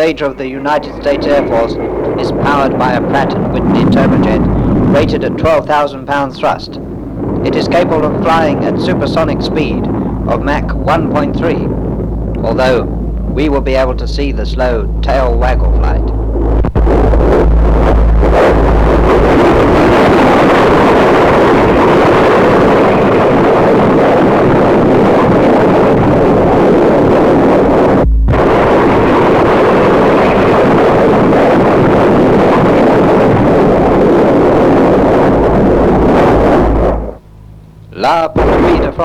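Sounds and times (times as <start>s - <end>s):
loud jet engine noise: 0.0s - 39.0s.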